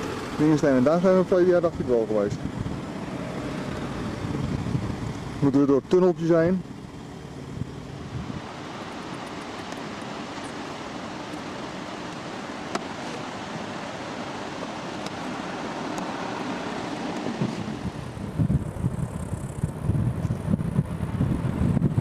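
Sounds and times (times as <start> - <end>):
vehicle road and engine noise: 0.0 - 22.0
wind buffeting microphone: 1.0 - 5.5, 6.9 - 22.0.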